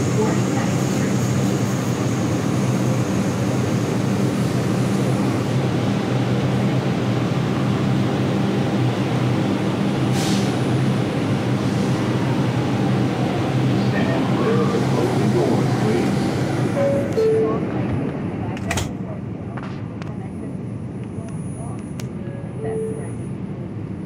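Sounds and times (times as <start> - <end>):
subway car equipment humming: 0.0 - 24.0.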